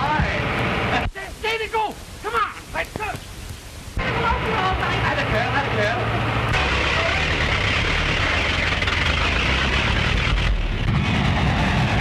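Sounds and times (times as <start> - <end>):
vehicle engine rumbling: 0.0 - 1.4, 2.0 - 12.0.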